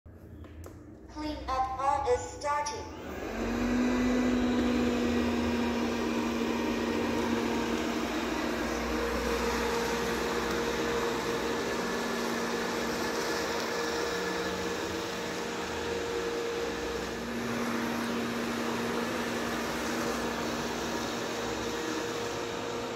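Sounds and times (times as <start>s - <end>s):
robot vacuum cleaner running: 1.1s - 22.9s.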